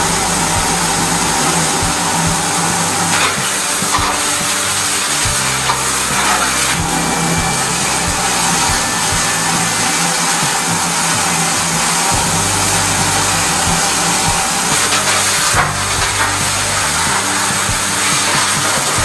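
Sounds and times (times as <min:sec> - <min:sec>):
engine hum: 0:00.0 - 0:19.0
water jet hissing: 0:00.0 - 0:19.0.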